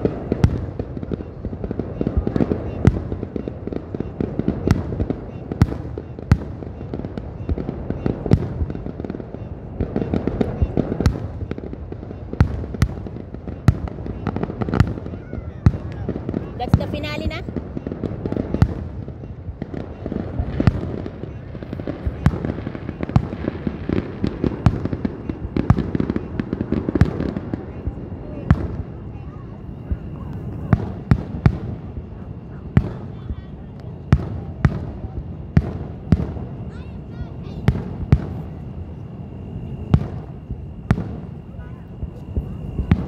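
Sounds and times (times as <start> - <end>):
fireworks crackling and popping: 0.0 - 43.0
loud fireworks bangs: 0.0 - 43.0.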